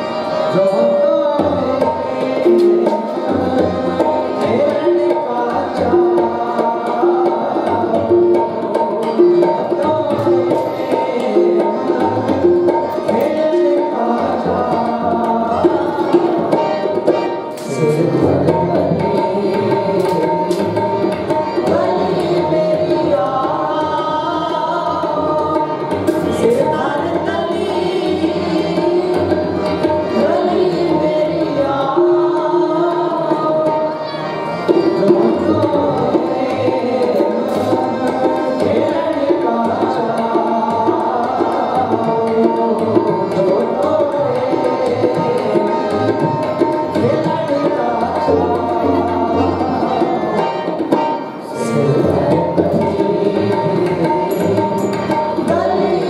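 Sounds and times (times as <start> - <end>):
harmonium melody: 0.0 - 56.0
tabla rhythm: 0.0 - 56.0.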